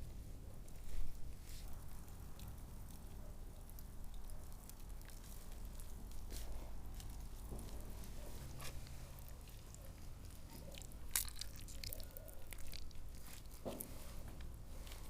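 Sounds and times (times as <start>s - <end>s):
meat squishing onto skewers: 0.2s - 15.0s.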